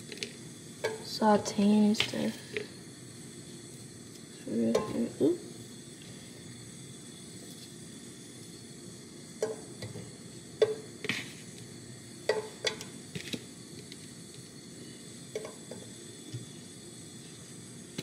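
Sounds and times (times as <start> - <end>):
onions sizzling in a pan: 0.0 - 18.0.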